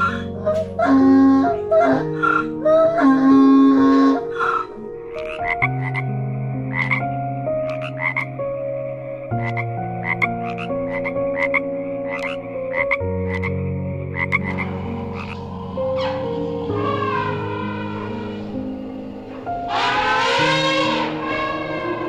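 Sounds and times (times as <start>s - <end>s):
background music with held chords: 0.0s - 22.0s
frog croaking: 0.0s - 22.0s.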